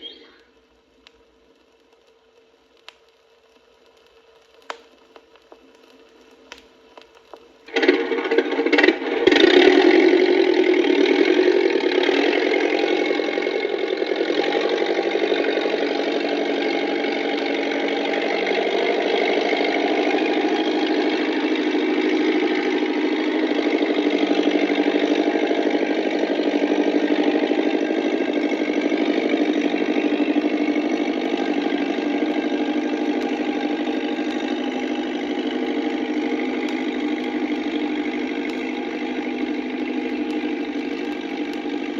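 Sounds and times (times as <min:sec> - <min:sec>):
tractor engine running: 0:06.3 - 0:41.9.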